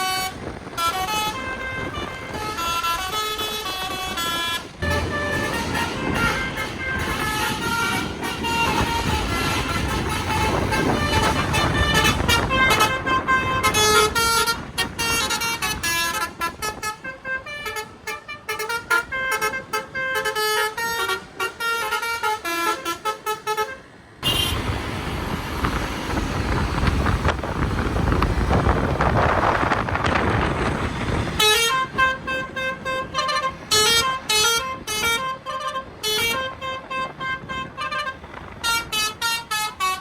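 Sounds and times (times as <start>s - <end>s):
multi-tone bus horn tune: 0.0s - 24.8s, 29.3s - 40.0s
engine and road noise: 0.0s - 40.0s.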